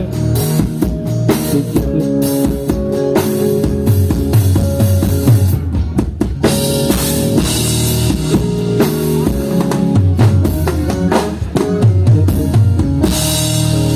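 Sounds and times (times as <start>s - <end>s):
rock band playing: 0.0s - 13.9s.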